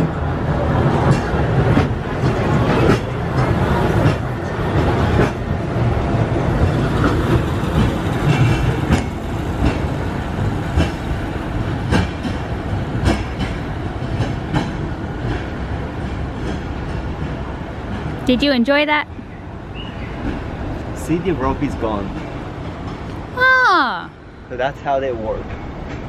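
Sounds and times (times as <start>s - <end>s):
wheels rumbling on rails: 0.0s - 26.0s.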